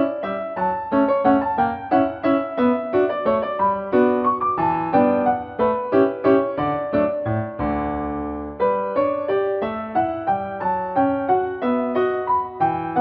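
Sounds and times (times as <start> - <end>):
solo piano waltz: 0.0 - 13.0.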